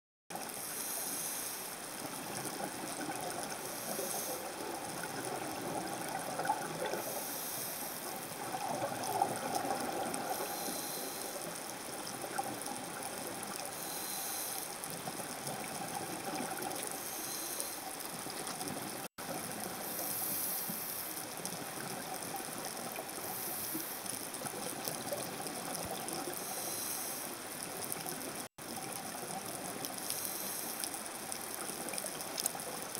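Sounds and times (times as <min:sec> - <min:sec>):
muffled underwater wash: 0:00.3 - 0:32.9.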